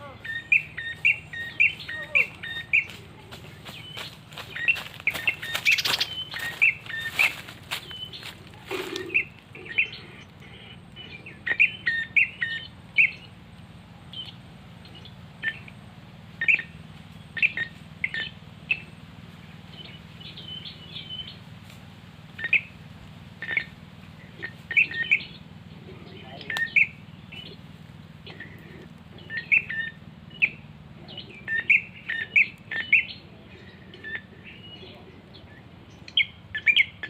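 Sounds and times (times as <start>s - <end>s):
bird chirping call notes: 0.0s - 13.4s, 16.4s - 19.0s, 22.4s - 22.8s, 23.4s - 37.0s
low steady hum: 0.0s - 37.0s.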